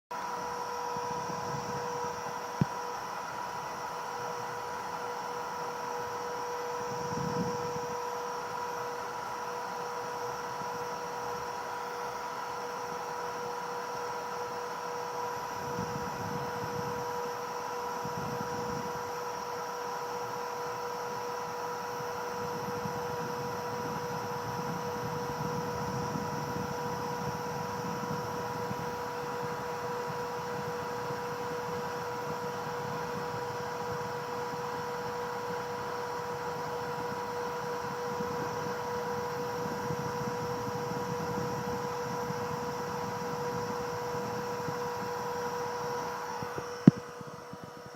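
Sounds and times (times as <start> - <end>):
electrical hum: 0.2 - 47.9.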